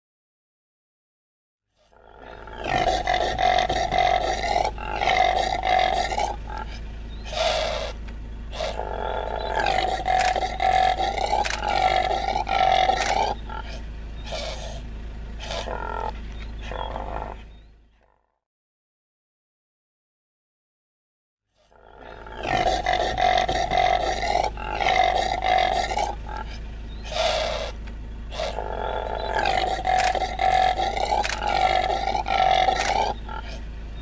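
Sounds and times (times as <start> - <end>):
impala calling: 1.8 - 18.2, 21.6 - 34.0.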